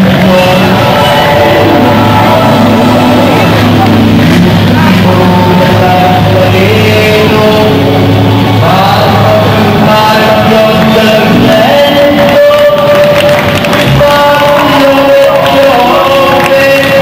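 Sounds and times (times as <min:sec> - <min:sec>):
background music with held notes: 0:00.0 - 0:17.0.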